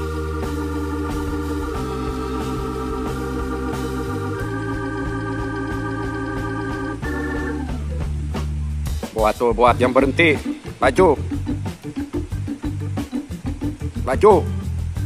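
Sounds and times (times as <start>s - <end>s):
sustained chords background music: 0.0s - 15.0s.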